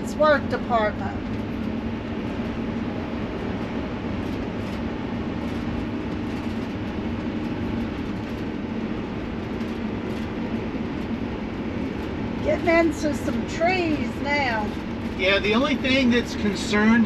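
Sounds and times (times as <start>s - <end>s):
road and engine drone: 0.0s - 17.0s.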